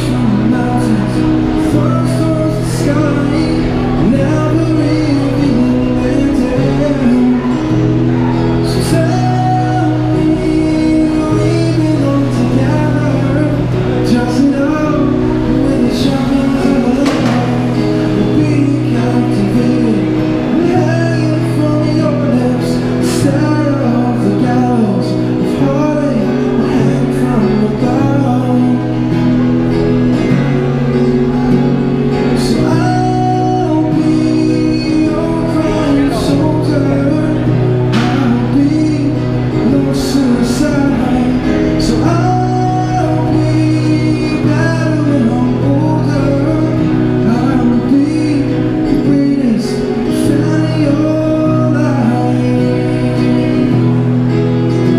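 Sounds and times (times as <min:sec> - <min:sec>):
acoustic guitar: 0:00.0 - 0:54.9
man singing: 0:00.0 - 0:54.9.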